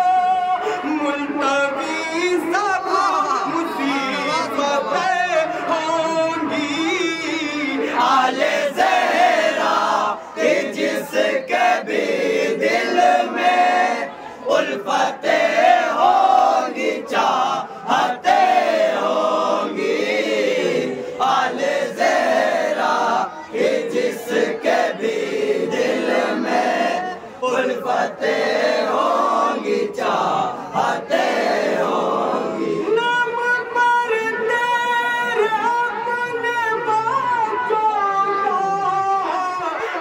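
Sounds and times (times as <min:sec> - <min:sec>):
chorus singing: 0:00.0 - 0:33.0
men singing devotional recitation: 0:00.0 - 0:40.0.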